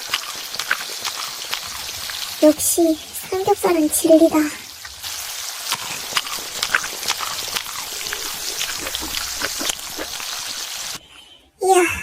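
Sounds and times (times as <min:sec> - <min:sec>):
meat sizzling on a grill: 0:00.0 - 0:11.0.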